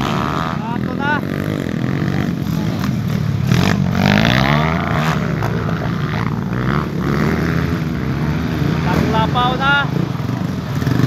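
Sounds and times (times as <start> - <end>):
trail bike engines revving: 0.0 - 11.0.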